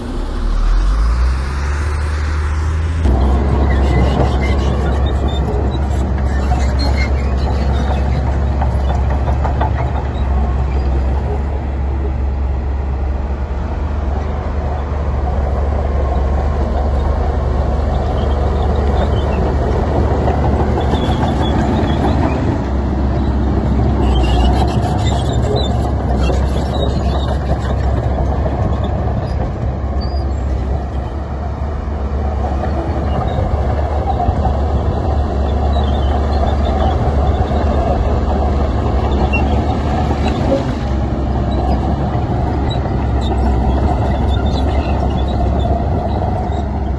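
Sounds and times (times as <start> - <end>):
heavy machinery diesel rumble: 0.0 - 46.9.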